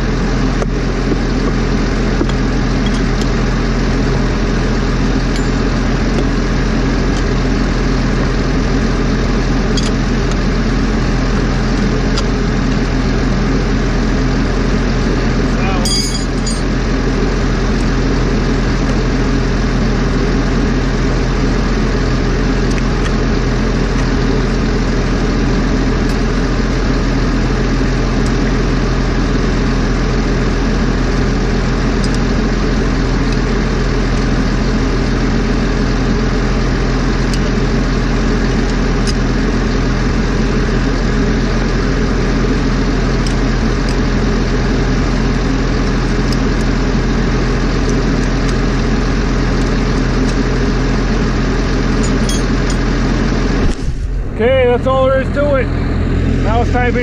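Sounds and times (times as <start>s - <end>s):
heavy machine engine idling: 0.0s - 57.0s.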